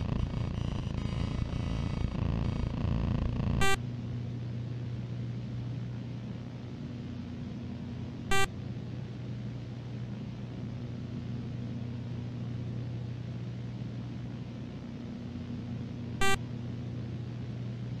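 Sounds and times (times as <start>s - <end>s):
low electrical hum: 0.0s - 18.0s
tape hiss: 0.0s - 18.0s.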